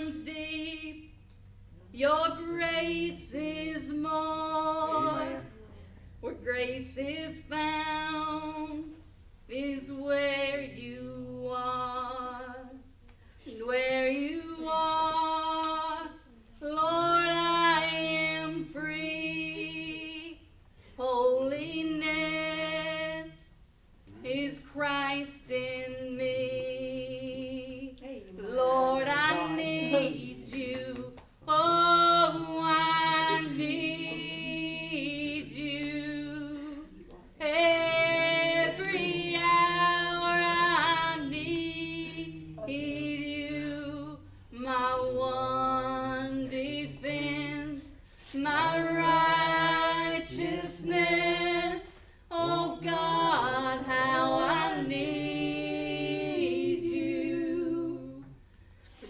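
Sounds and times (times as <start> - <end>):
woman singing worship song: 0.0 - 59.0.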